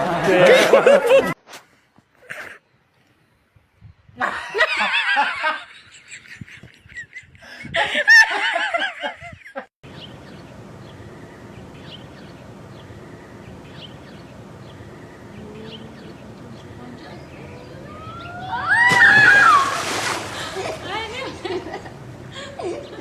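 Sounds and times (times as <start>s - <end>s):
steady low hiss: 0.9s - 18.3s, 19.7s - 23.0s.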